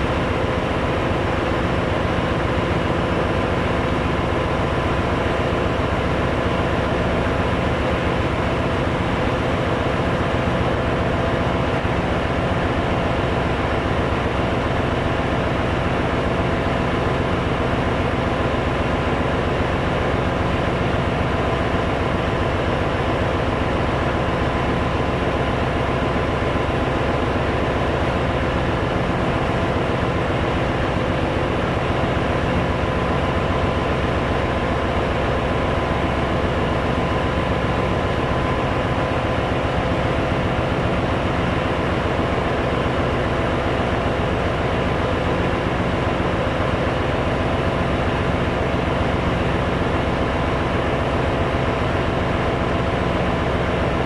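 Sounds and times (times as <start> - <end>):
engine room machinery drone: 0.0 - 54.0.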